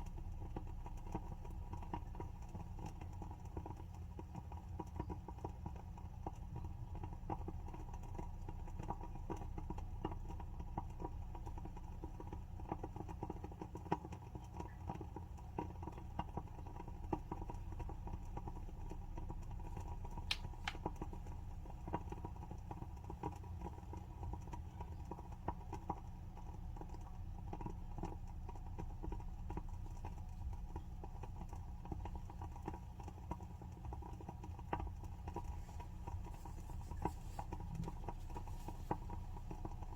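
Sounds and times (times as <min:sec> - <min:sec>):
candle wick crackling: 0:00.0 - 0:39.9.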